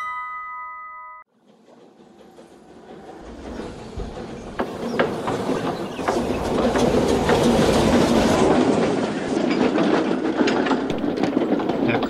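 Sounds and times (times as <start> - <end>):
train wheels clacking on rails: 1.3 - 12.0.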